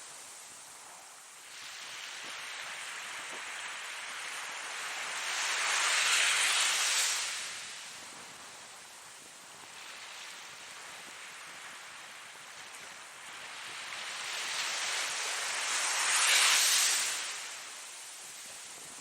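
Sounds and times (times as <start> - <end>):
ocean waves washing on shore: 0.0 - 19.0.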